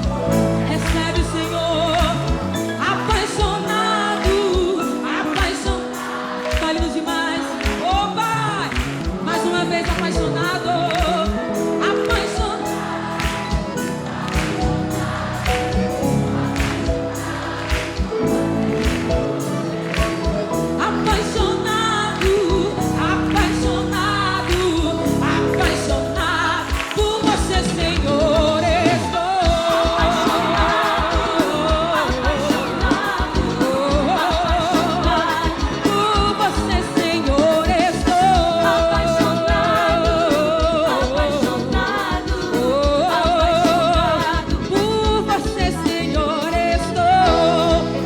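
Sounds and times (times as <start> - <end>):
accordion: 0.0 - 48.0
live band playing: 0.0 - 48.0.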